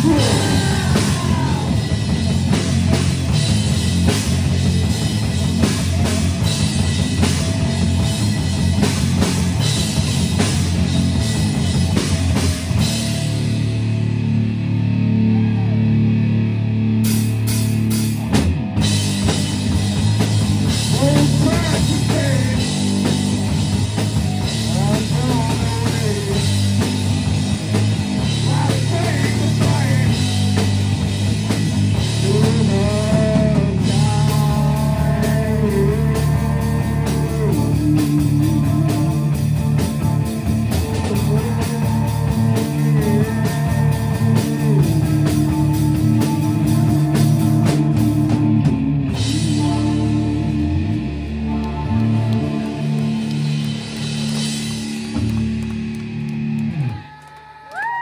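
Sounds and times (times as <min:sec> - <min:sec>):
drum kit: 0:00.0 - 0:57.2
bass guitar: 0:00.0 - 0:58.0
distorted electric guitars: 0:00.0 - 0:58.0.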